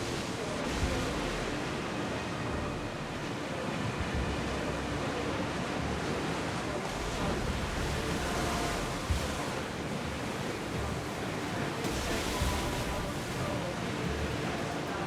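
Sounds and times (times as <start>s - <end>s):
sea waves surf: 0.0s - 15.0s.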